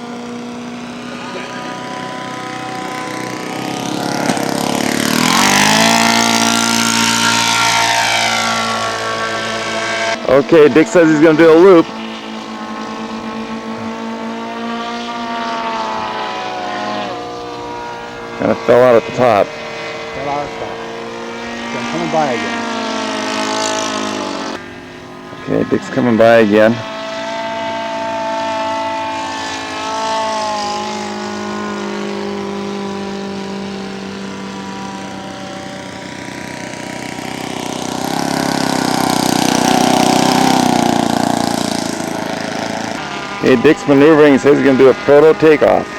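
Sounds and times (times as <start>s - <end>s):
model plane propeller engine: 0.0s - 45.9s.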